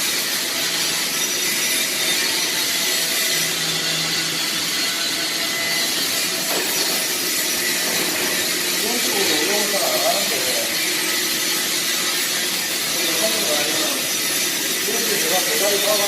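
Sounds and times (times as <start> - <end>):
welding equipment hissing: 0.0 - 16.0.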